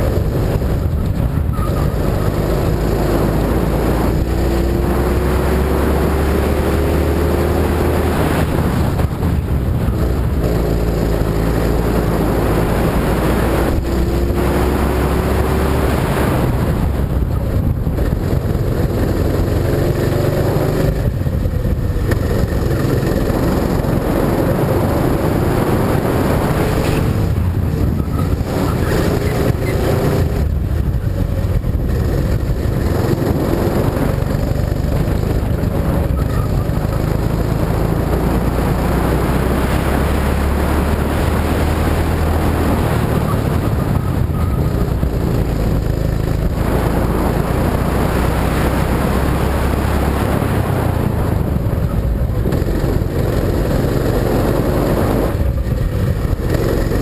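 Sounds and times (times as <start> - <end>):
go-kart engine running: 0.0 - 57.0
wind noise on microphone: 0.0 - 57.0.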